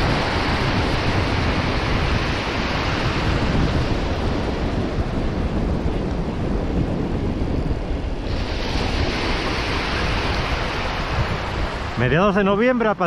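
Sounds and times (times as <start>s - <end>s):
breaking surf: 0.0s - 13.0s
wind rumbling on microphone: 0.0s - 13.0s.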